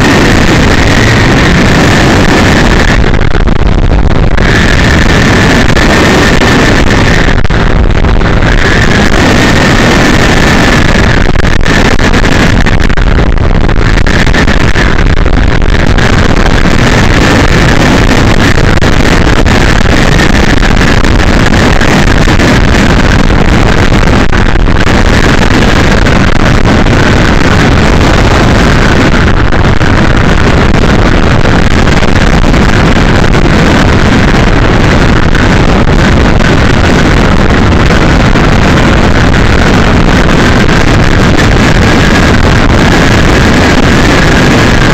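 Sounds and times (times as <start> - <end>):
car road and wind noise: 0.0 - 44.9.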